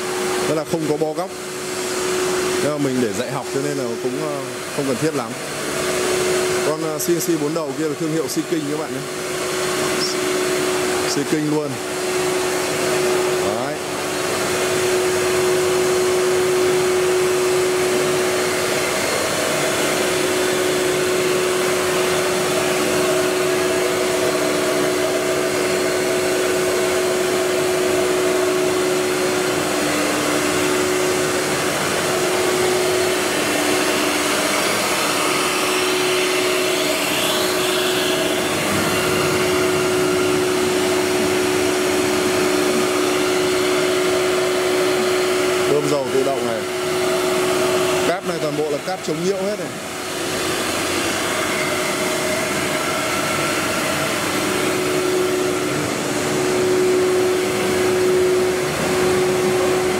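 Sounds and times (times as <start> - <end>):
electric blower air rush: 0.0 - 59.9
motor hum: 0.0 - 59.9.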